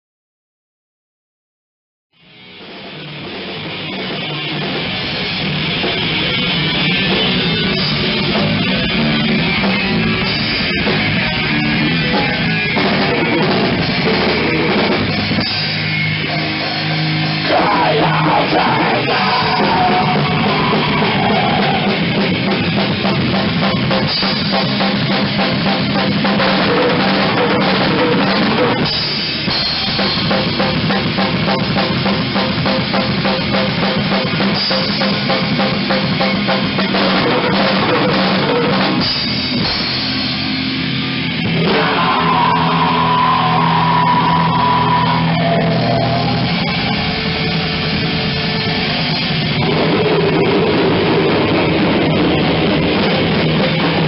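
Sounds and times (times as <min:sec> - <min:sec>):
death metal band playing: 0:02.2 - 0:54.0.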